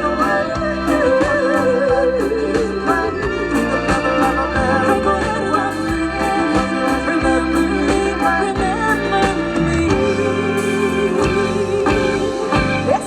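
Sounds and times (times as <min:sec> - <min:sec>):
bass notes: 0:00.0 - 0:13.0
drum strikes: 0:00.0 - 0:13.0
organ-like keyboard: 0:00.0 - 0:13.0.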